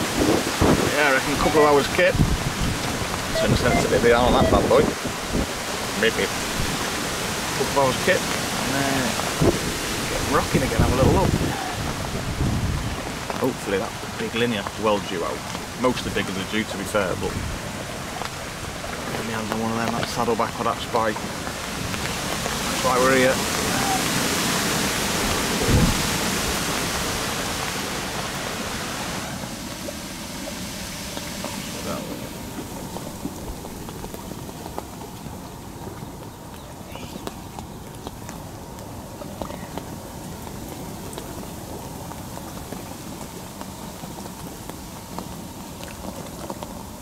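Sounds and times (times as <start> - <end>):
heavy rain on water: 0.0 - 47.0
wind buffeting microphone: 0.0 - 47.0.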